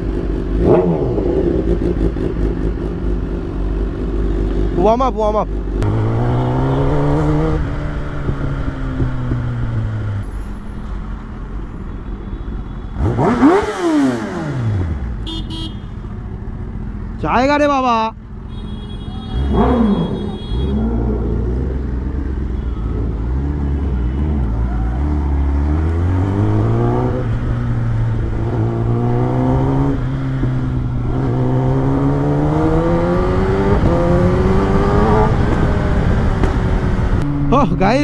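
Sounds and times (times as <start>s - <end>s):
motorcycle engine accelerating: 0.0s - 10.3s, 13.0s - 15.3s, 19.4s - 38.0s.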